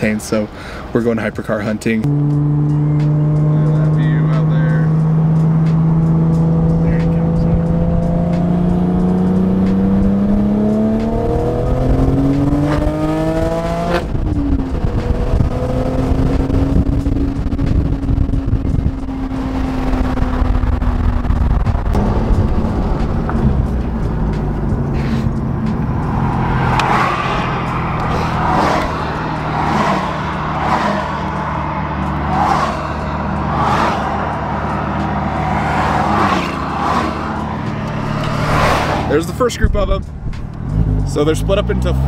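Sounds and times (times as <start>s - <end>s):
road and wind noise: 0.0s - 42.0s
car engine running: 2.0s - 42.0s.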